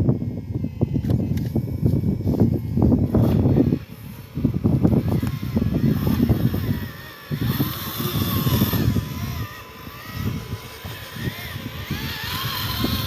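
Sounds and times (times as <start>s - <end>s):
toy truck motor and gears whining: 0.0s - 13.0s.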